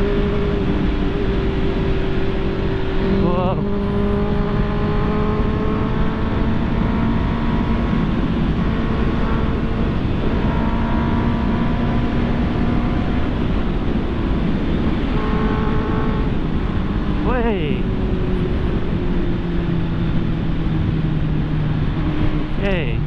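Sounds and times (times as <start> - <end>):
wind and road rush: 0.0 - 23.0.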